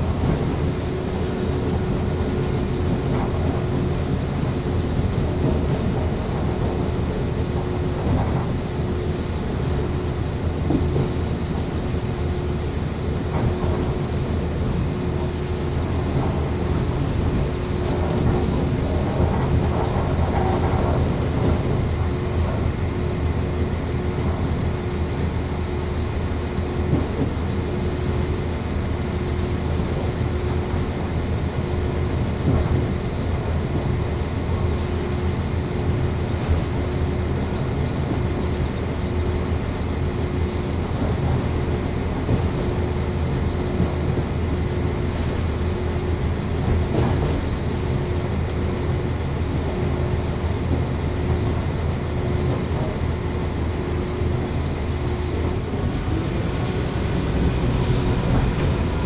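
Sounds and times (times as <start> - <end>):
constant hum: 0.0 - 59.0
train wheels rumbling: 0.0 - 59.0.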